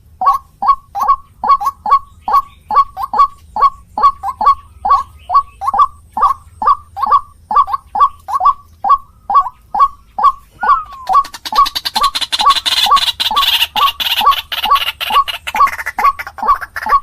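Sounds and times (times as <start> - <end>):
waterhen calling harsh notes: 0.0 - 17.0.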